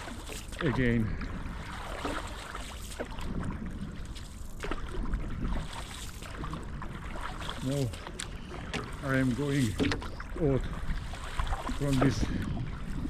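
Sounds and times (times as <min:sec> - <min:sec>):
paddle splashing in water: 0:00.0 - 0:13.0
wind rumbling on microphone: 0:00.0 - 0:13.0.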